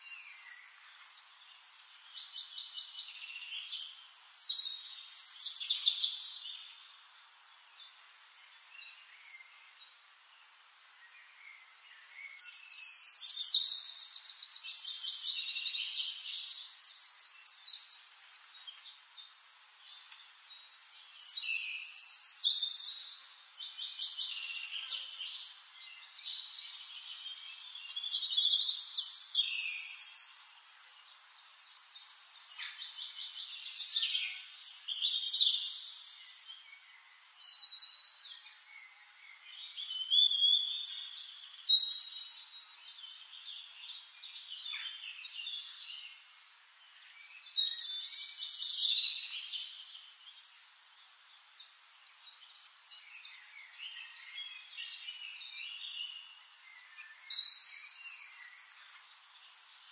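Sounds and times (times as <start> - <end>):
songbirds trilling and chirping: 0.0 - 59.9.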